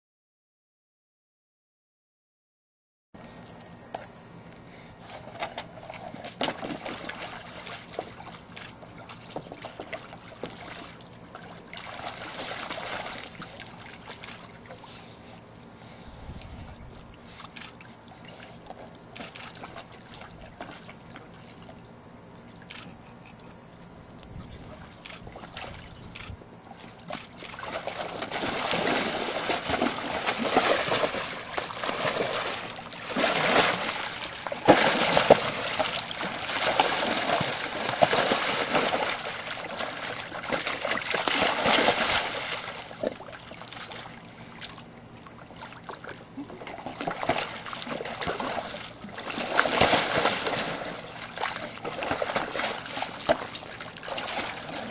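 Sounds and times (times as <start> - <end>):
animal splashing in water tank: 5.2 - 15.0, 17.3 - 21.8, 24.6 - 54.9.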